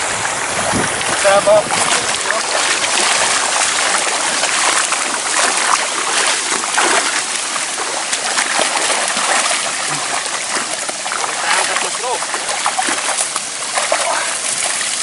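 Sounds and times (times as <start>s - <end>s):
river water splashing: 0.0s - 15.0s.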